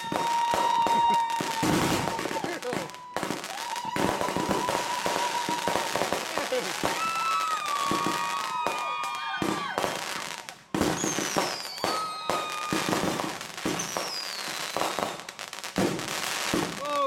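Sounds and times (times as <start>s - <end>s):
fireworks bangs and crackling: 0.0s - 17.0s
fireworks whistling: 0.0s - 17.0s.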